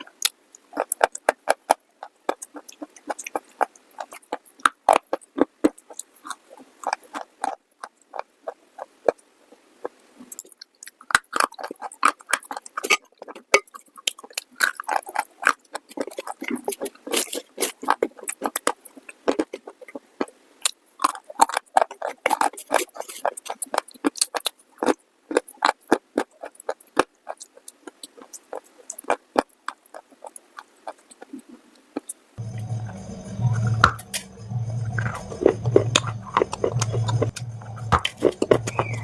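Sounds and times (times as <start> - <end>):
crunchy chewing: 0.0 - 32.2, 35.0 - 39.0.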